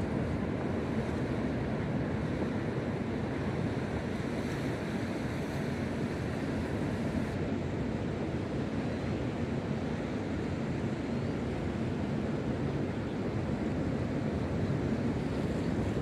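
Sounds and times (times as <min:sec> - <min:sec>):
ocean surf on beach: 0:00.0 - 0:16.0.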